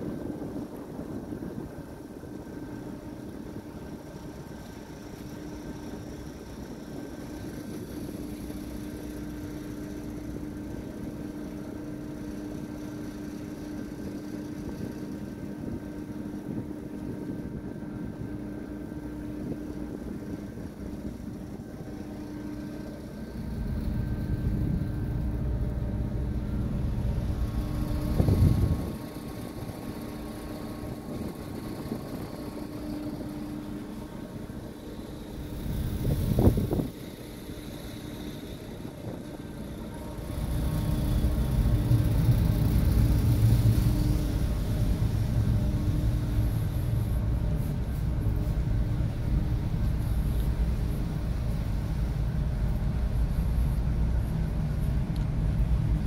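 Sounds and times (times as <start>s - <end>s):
ferry engines droning: 0.0s - 56.0s
wind buffeting microphone: 0.0s - 56.0s.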